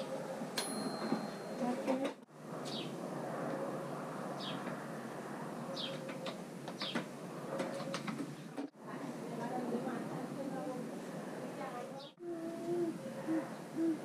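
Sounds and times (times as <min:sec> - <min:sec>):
outdoor background hum: 0:00.0 - 0:14.0.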